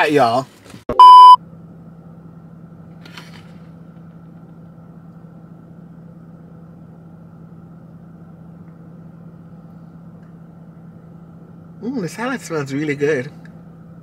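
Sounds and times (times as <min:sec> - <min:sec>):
car engine idling: 0:01.4 - 0:14.0.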